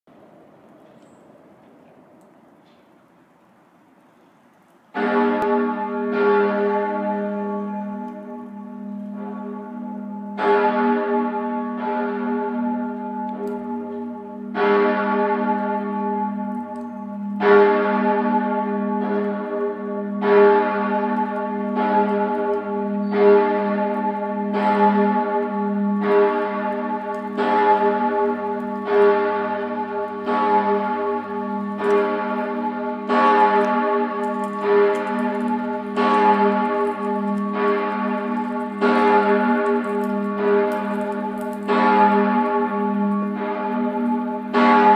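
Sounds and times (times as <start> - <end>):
large church bell ringing: 4.9 - 44.9.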